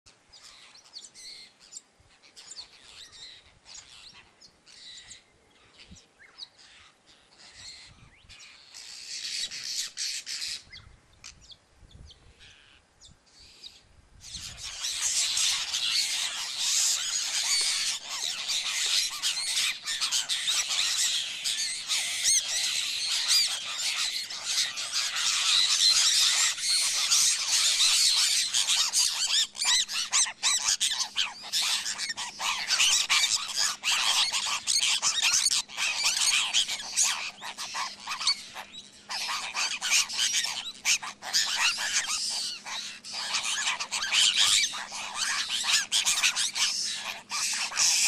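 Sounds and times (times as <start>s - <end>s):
birds chattering and squawking: 0.1s - 48.0s.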